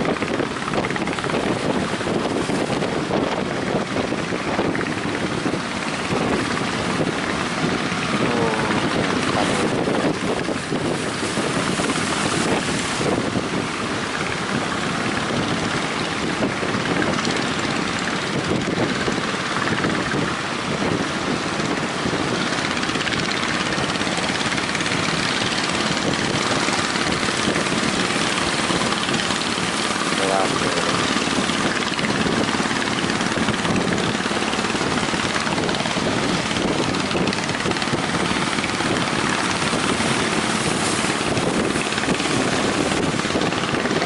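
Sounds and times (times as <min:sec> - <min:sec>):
waves breaking on shore: 0:00.0 - 0:44.0
wind blowing on microphone: 0:00.0 - 0:44.0.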